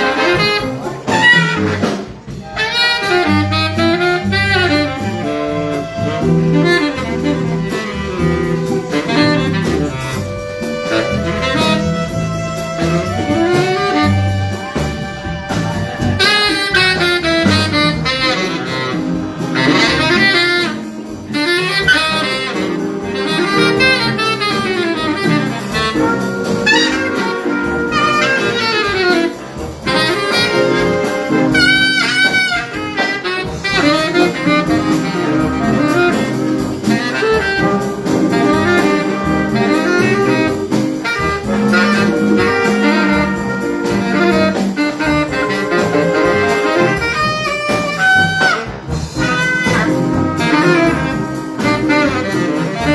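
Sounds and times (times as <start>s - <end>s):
jazz big band playing: 0.0s - 52.9s
saxophones playing lead: 0.0s - 52.9s.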